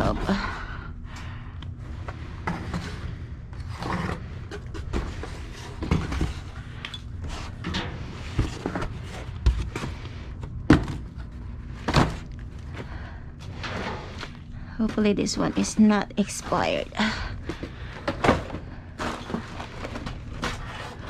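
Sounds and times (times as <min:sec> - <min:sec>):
rustling of boxes and bags: 0:01.7 - 0:21.0.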